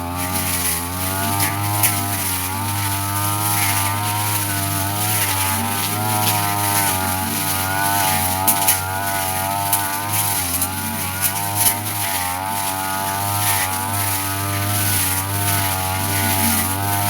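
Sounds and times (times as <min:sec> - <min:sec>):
brush cutter engine running: 0:00.0 - 0:17.0.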